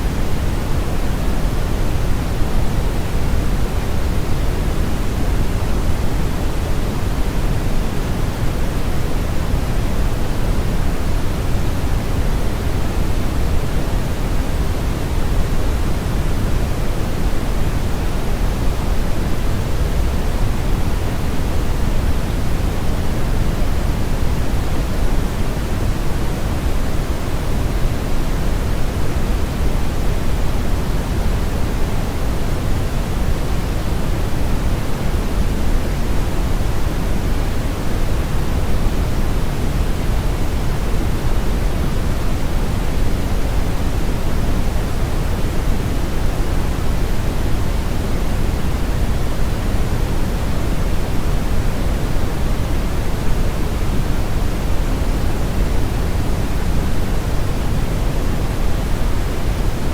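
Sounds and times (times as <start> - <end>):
steady brown and white noise hiss: 0.0 - 59.9.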